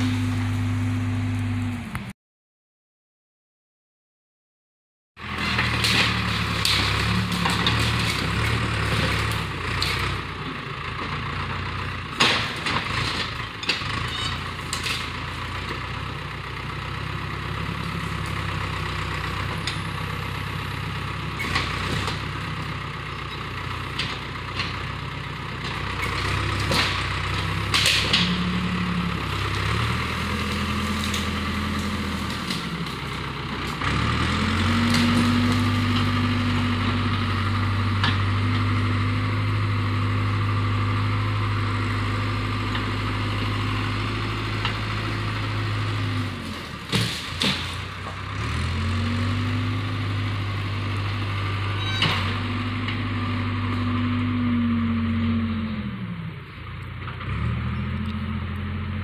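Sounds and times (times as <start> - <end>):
diesel engine running: 0.0 - 2.1, 5.2 - 59.0.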